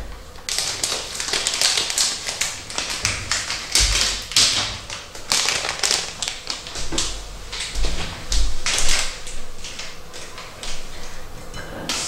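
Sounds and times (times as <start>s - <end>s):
plastic packaging crinkling: 0.3s - 11.2s.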